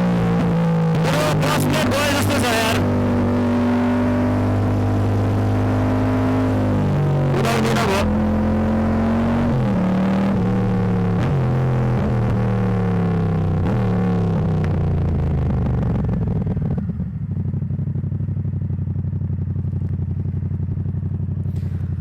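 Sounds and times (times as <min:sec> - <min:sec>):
motorcycle engine shifting gears: 0:00.0 - 0:22.0.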